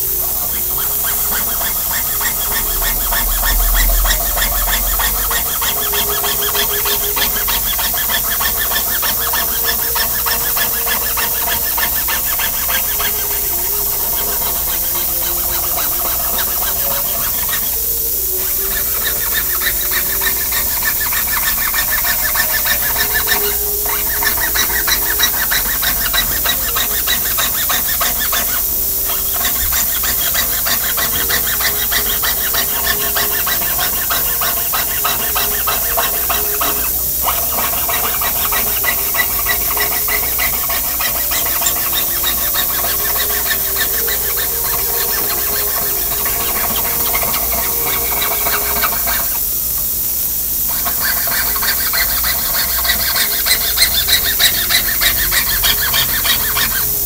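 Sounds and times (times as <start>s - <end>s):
saw rasping through metal sheet: 0.0s - 57.0s.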